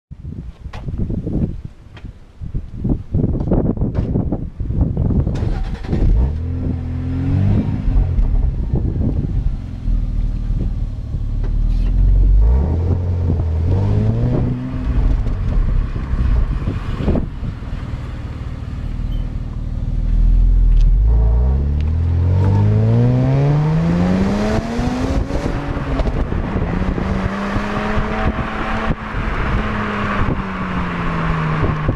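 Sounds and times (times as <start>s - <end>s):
wind and road noise: 0.1s - 31.9s
car exhaust accelerating: 5.3s - 31.9s.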